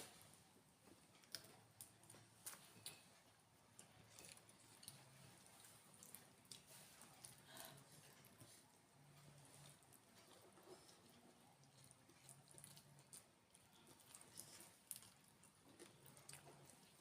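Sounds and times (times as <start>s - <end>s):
wet chewing sounds: 0.9s - 17.0s.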